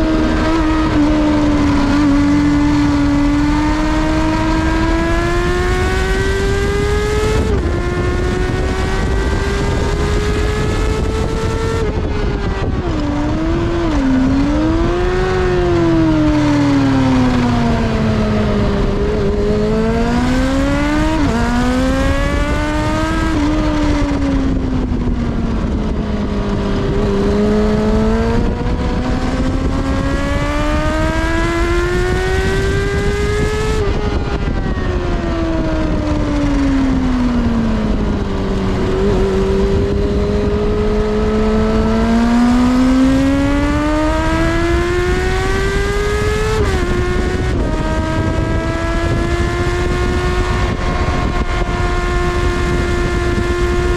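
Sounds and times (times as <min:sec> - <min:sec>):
motorcycle engine at high revs: 0:00.0 - 0:53.9.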